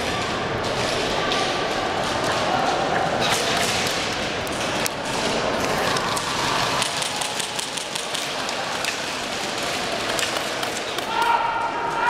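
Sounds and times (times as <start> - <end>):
continuous noisy din: 0.0 - 12.0.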